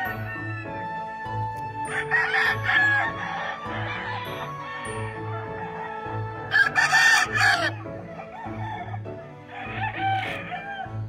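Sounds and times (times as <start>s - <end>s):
background music with steady beat: 0.0s - 11.0s
rooster crowing: 1.9s - 11.0s.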